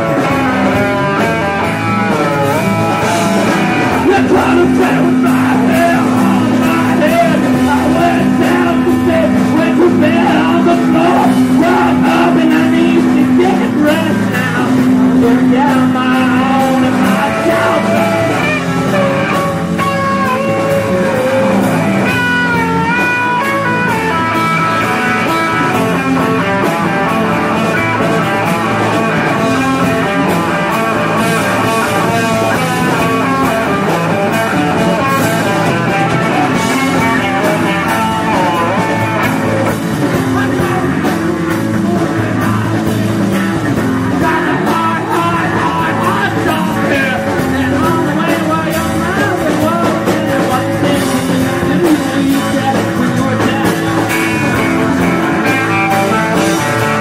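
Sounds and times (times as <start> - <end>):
electric guitar: 0.0 - 57.0
live rock band playing: 0.0 - 57.0.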